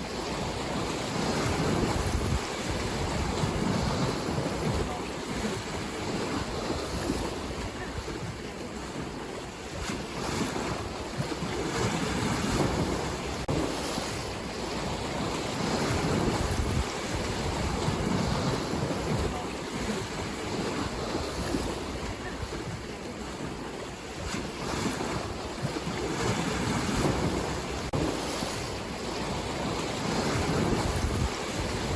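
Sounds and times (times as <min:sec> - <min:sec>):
ocean waves breaking: 0:00.0 - 0:31.9
wind rumbling on microphone: 0:00.0 - 0:31.9.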